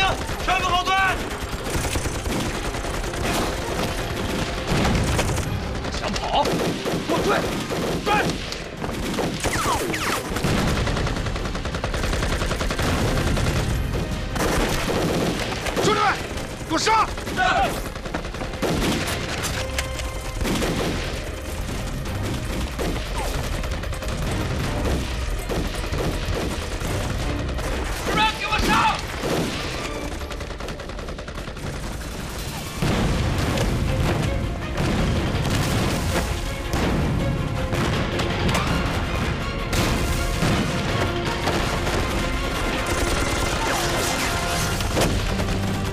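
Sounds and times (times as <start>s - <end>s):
rapid automatic gunfire: 0.0s - 33.1s, 40.4s - 45.9s.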